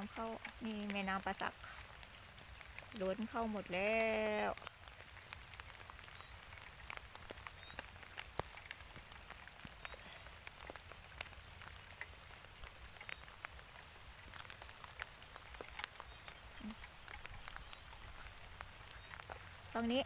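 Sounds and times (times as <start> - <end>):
faint steady hiss: 0.0 - 20.0
light rain falling: 0.0 - 20.0
raindrops ticking: 0.0 - 20.0.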